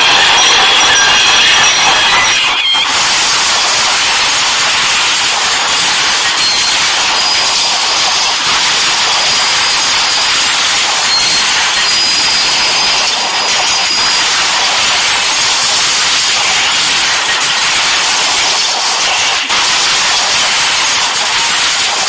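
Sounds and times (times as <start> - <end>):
thin high squeal: 0.0 - 21.0
train hissing rush: 0.0 - 22.0.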